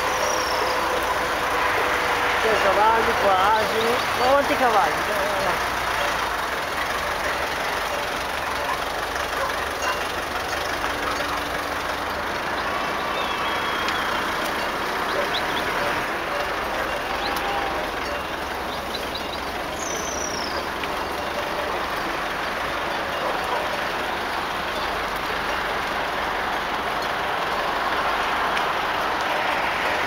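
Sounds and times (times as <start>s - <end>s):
heavy road traffic: 0.0s - 30.0s.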